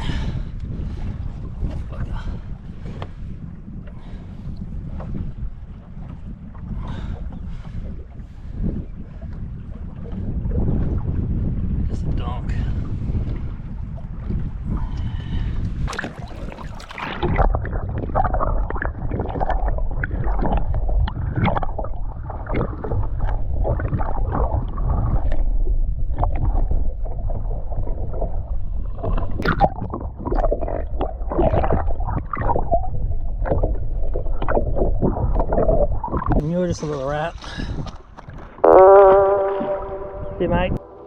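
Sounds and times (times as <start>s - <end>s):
low rumble: 0.0s - 41.0s
water splashing around a boat: 0.0s - 41.0s.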